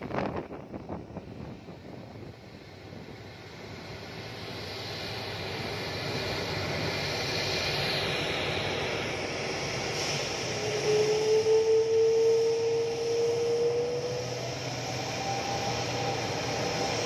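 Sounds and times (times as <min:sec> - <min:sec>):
jet engines rushing with whine: 0:00.0 - 0:17.0.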